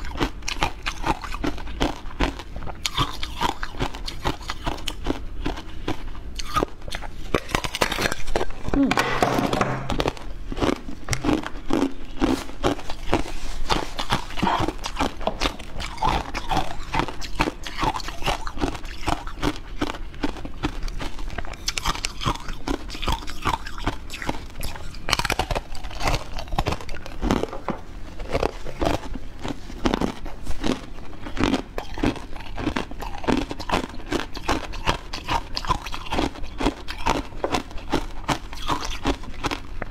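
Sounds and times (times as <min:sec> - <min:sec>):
person biting and chewing: 0:00.0 - 0:39.9.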